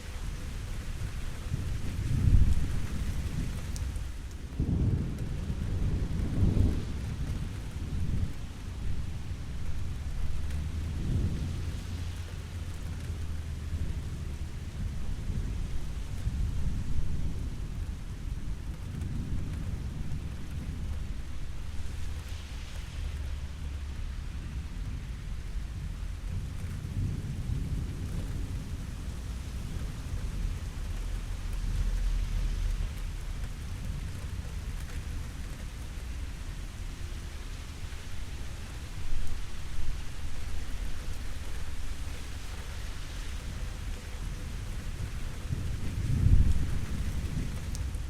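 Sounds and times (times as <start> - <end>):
steady rain: 0.0 - 48.0
thunder rumbling: 0.9 - 48.0.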